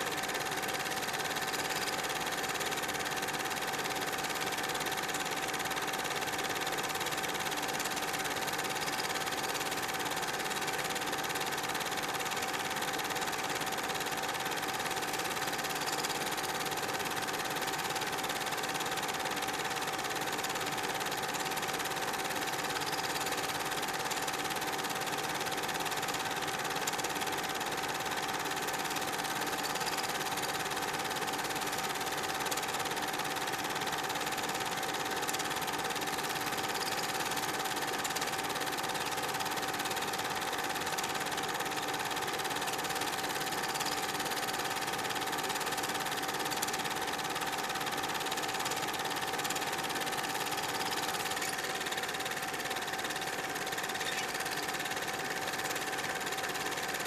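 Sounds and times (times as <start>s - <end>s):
film projector whirring: 0.0s - 57.0s.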